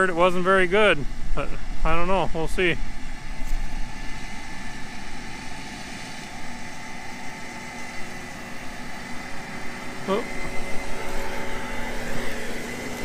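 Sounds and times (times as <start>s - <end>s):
combine harvester engine hum: 0.0s - 13.0s
faint constant whine: 0.0s - 13.0s.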